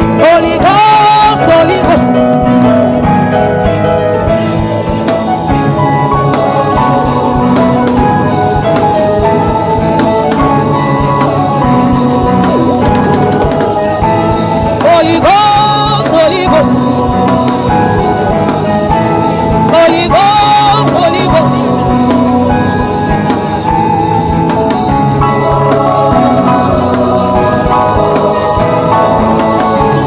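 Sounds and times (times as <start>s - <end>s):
drum kit: 0.0s - 30.0s
gospel music with keyboard: 0.0s - 30.0s
person singing: 0.0s - 30.0s.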